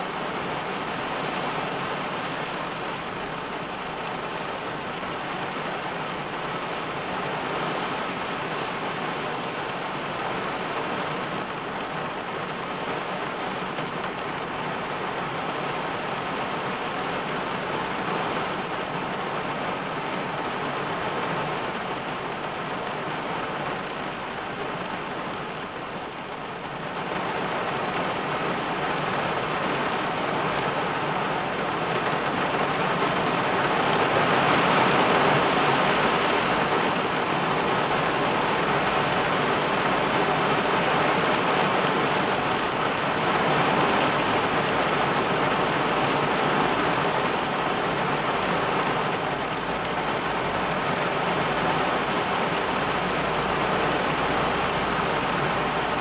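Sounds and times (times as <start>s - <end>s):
heavy rain on car roof: 0.0s - 56.0s.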